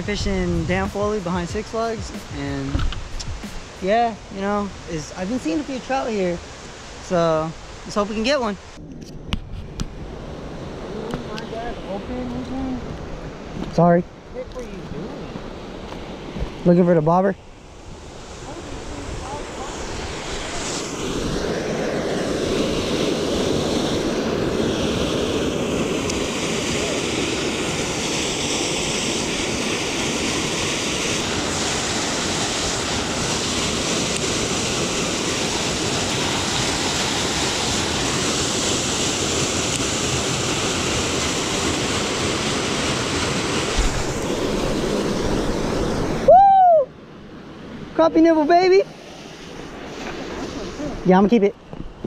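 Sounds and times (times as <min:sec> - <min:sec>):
creek water rushing into channel: 0:00.0 - 0:08.8, 0:09.9 - 0:52.0.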